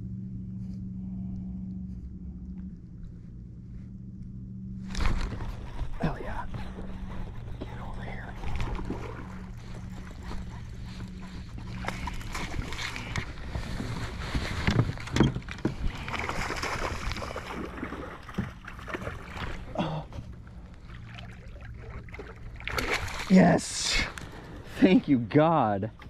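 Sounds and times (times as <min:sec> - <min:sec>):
low steady hum: 0:00.0 - 0:26.0
water splashing and sloshing: 0:04.8 - 0:26.0.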